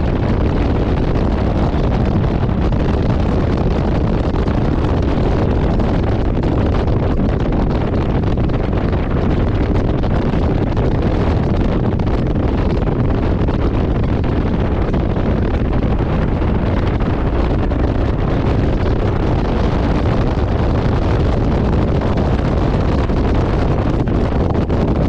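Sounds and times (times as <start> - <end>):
motorcycle running: 0.0 - 25.0
wind rushing over microphone: 0.0 - 25.0.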